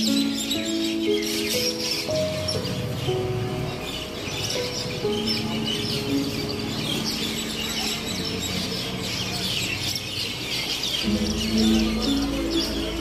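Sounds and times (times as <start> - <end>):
small birds chirping: 0.0 - 13.0
soft background melody: 0.0 - 13.0.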